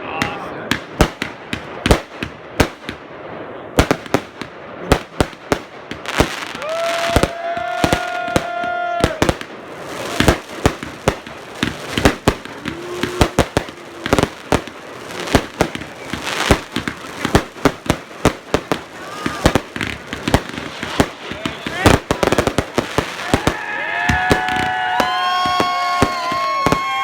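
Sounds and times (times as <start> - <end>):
fireworks and firecrackers banging: 0.0 - 27.0.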